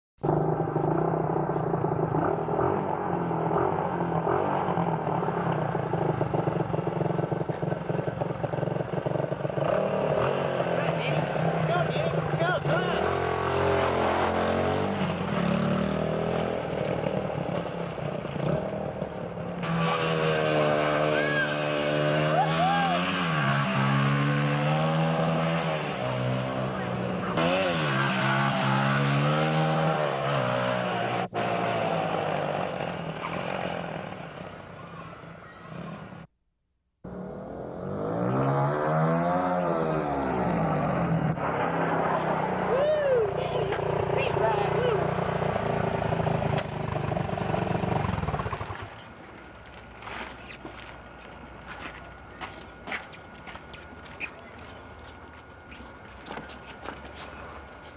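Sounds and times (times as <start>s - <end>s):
small motorcycle engine revving: 0.2s - 36.3s, 37.1s - 49.2s.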